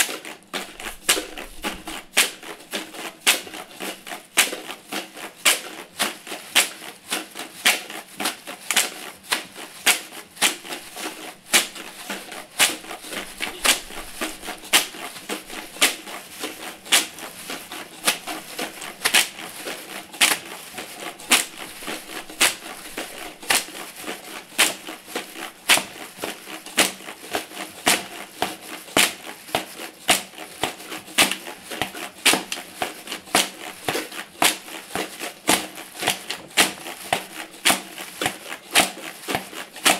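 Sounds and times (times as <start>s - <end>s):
beat of crinkling plastic and cans: 0.0s - 39.9s.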